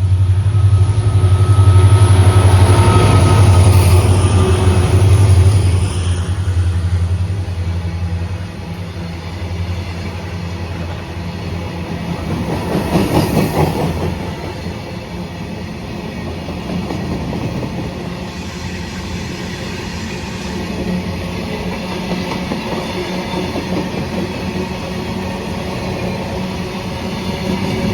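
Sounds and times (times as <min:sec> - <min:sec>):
goods train rumbling past: 0:00.0 - 0:27.9.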